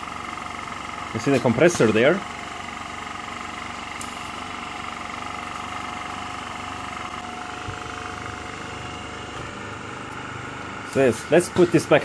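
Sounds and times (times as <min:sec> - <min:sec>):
compressor hum with high whine: 0:00.0 - 0:12.0.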